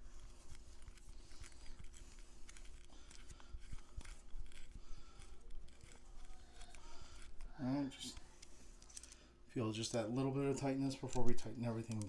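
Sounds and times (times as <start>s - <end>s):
faint metallic clicks and scrapes: 0.0s - 9.4s, 10.4s - 12.0s.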